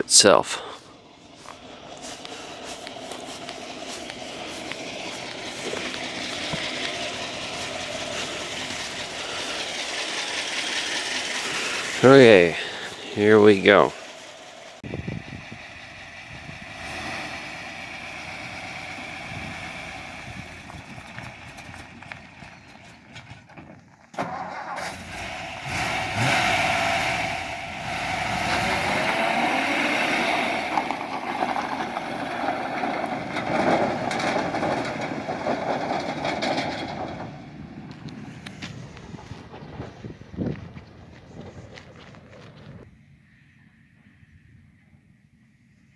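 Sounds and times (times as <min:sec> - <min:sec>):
pickup truck engine running: 0:00.1 - 0:42.9.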